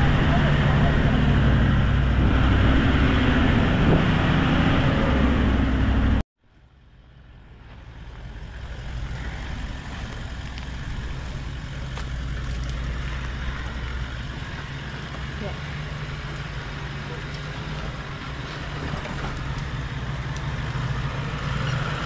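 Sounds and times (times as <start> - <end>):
road and tyre noise: 0.0 - 22.0
vehicle engine running: 0.0 - 22.0.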